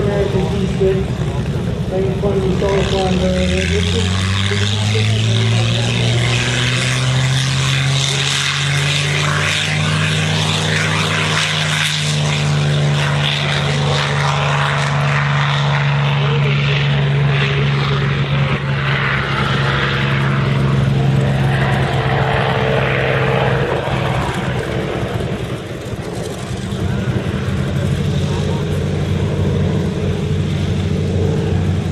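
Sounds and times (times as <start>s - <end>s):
propeller aircraft engines droning: 0.0s - 31.9s.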